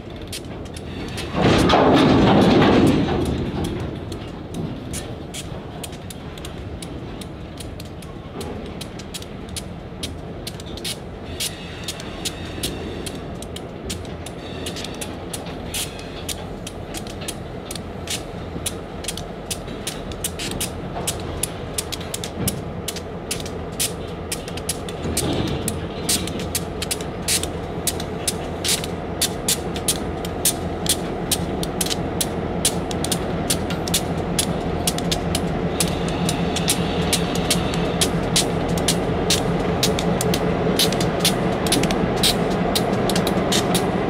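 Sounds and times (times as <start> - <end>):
diesel locomotive rumble: 0.0 - 44.0
freight cars creaking and clicking: 0.0 - 44.0.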